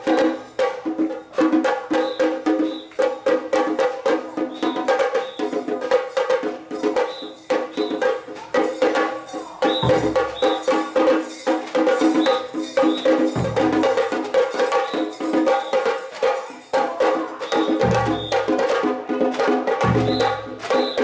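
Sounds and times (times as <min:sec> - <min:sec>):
bells jangling: 0:00.0 - 0:18.6, 0:20.0 - 0:21.0.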